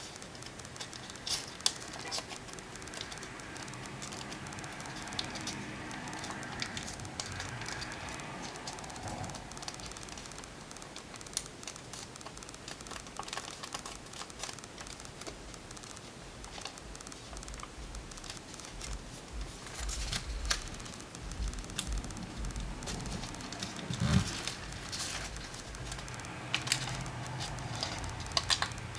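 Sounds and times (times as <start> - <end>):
paper crinkling and crackling: 0.0 - 28.9.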